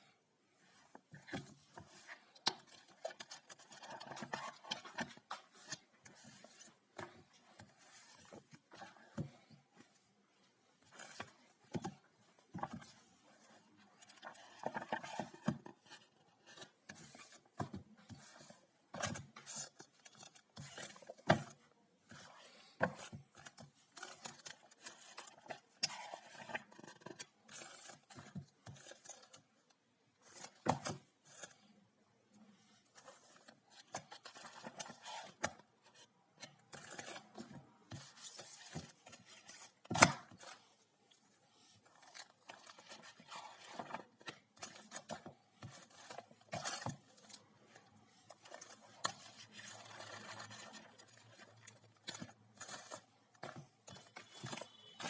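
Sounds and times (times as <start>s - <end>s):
packaging rustling and scraping: 0.8s - 10.2s, 10.8s - 29.5s, 32.7s - 55.0s.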